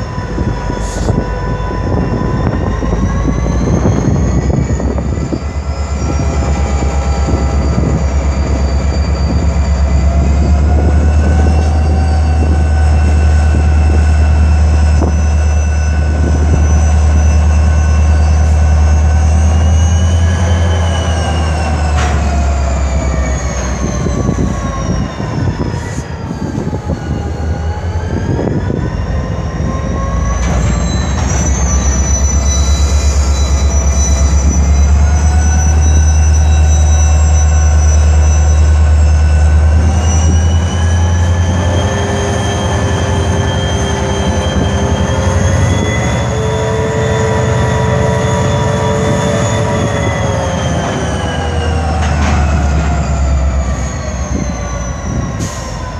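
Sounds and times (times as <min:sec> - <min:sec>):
diesel locomotive rumbling: 0:00.0 - 0:55.9
wheels squealing on rails: 0:00.0 - 0:55.9.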